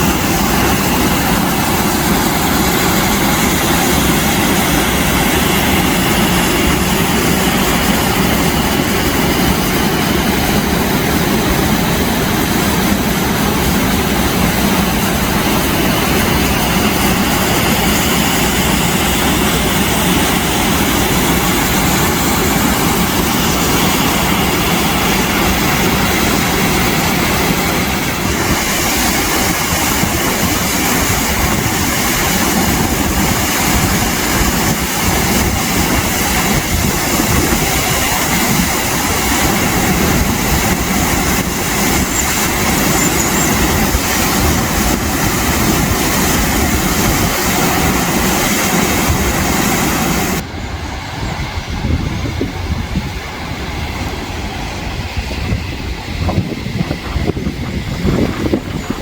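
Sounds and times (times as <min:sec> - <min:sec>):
waterfall and river rushing: 0:00.0 - 0:50.5.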